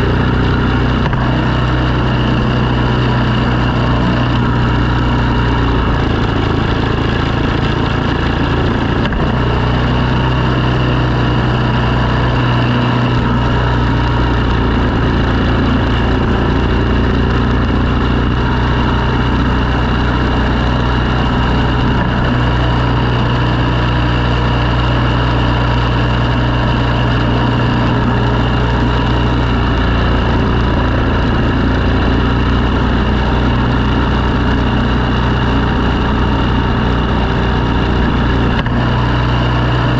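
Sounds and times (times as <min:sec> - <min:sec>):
snow-clearing machine engine running: 0:00.0 - 0:39.9.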